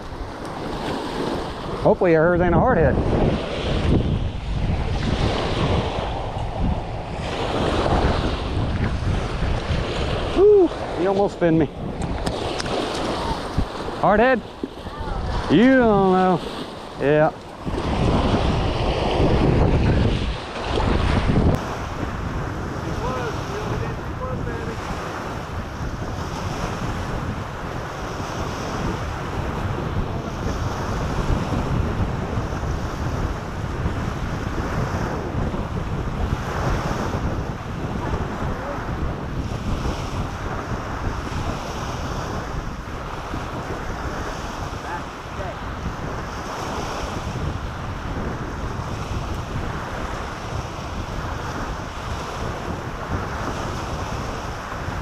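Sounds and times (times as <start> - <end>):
small waves washing onto shore: 0.0 - 55.0
wind buffeting microphone: 0.0 - 55.0.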